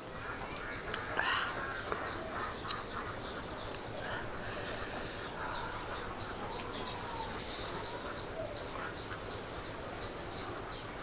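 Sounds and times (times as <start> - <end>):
small bird chirping: 0.1 - 11.0.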